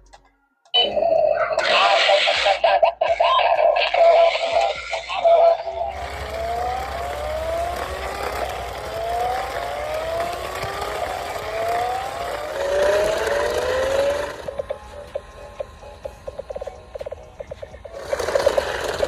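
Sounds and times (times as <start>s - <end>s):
remote-control toy whine: 0.8s - 19.0s.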